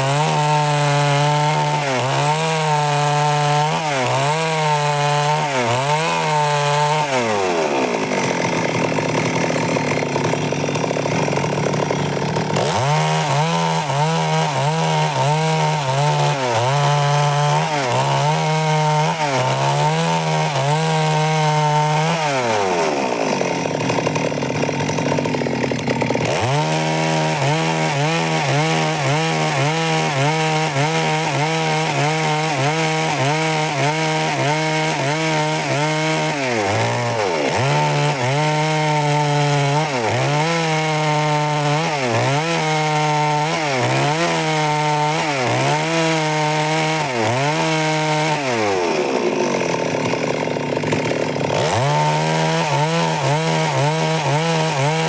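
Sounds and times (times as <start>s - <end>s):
chainsaw sawing wood: 0.0s - 55.0s.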